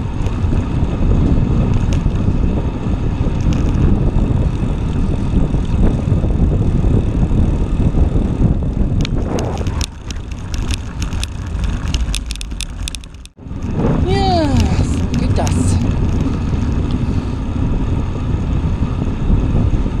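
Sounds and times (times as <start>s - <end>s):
bike rattling over cobblestones: 0.0s - 20.0s
wind and road rumble: 0.0s - 20.0s.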